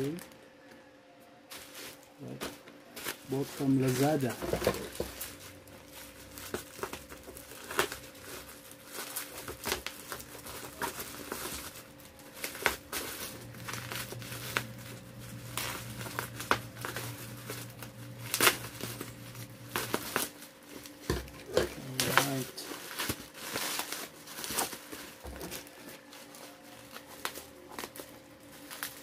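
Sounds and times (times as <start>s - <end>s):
plastic wrap crinkling: 1.4s - 29.0s.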